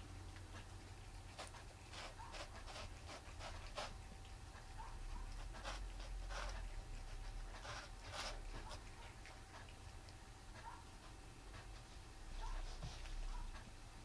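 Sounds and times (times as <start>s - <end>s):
cats licking cardboard: 0.0s - 14.0s.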